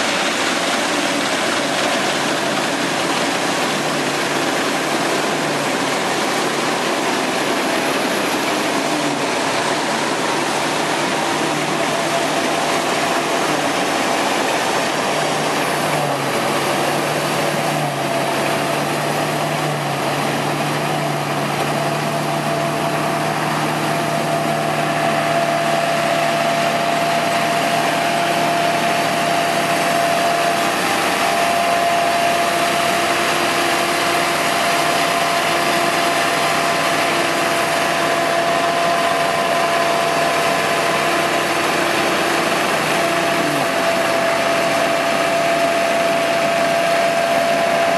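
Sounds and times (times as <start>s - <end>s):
combine harvester running: 0.0s - 47.9s
high mechanical whine: 0.0s - 47.9s.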